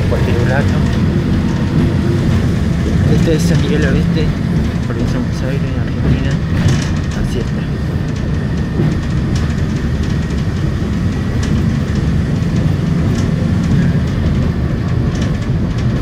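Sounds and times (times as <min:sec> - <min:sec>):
light ticks and rattles: 0:00.0 - 0:16.0
vehicle rumble from inside cabin: 0:00.0 - 0:16.0.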